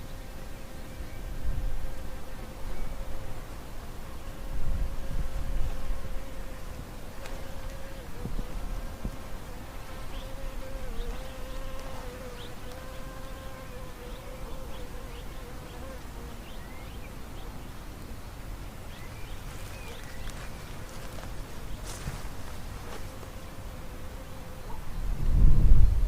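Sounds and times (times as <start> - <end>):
insect buzzing: 0.0 - 26.0.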